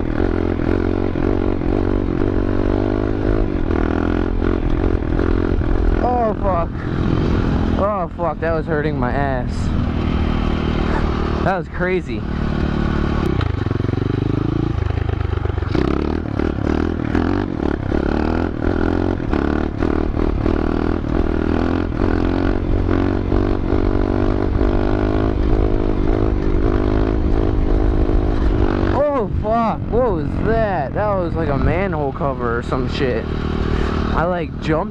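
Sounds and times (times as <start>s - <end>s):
motorbike engine revving: 0.0s - 34.9s.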